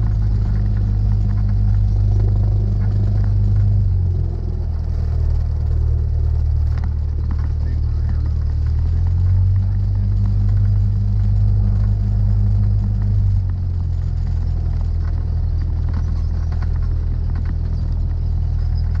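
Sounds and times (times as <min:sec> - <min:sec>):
light aircraft engine and propeller: 0:00.0 - 0:19.0
light rattles: 0:00.0 - 0:19.0.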